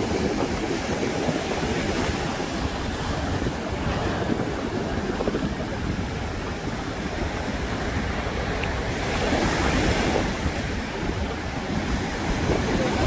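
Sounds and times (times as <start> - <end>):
sea waves breaking on beach: 0.0 - 13.0
wind buffeting microphone: 0.0 - 13.0.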